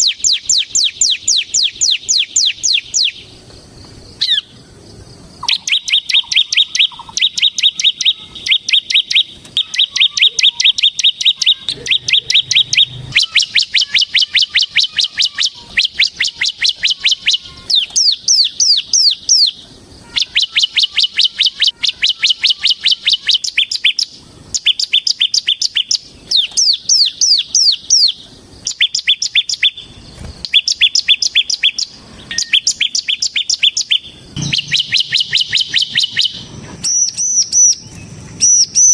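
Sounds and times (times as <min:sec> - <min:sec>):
bird singing rapid trill: 0:00.0 - 0:03.4, 0:04.0 - 0:38.9.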